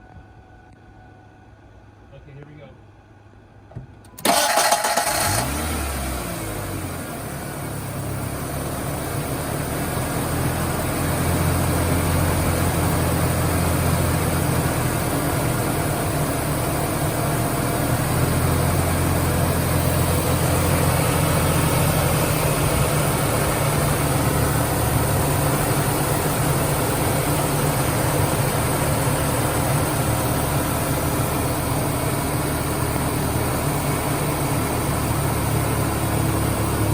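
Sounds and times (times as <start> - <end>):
car engine starting and idling: 3.3 - 36.9.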